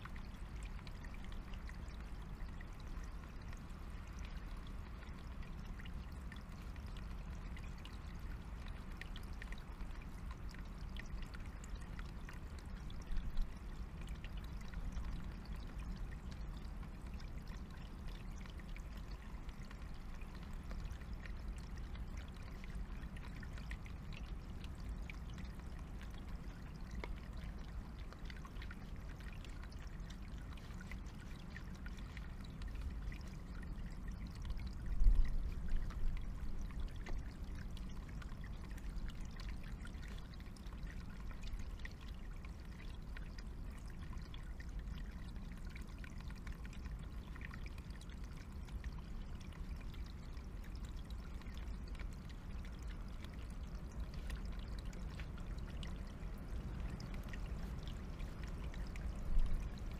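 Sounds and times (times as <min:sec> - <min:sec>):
stream trickling over stones: 0:00.0 - 0:59.9.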